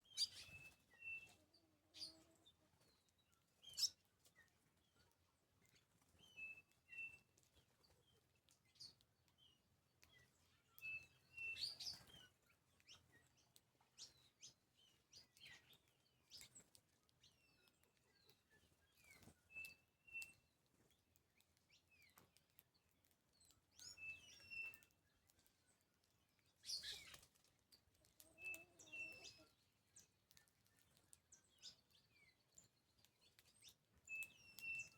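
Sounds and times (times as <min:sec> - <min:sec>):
faint birds chirping: 0:00.0 - 0:34.9.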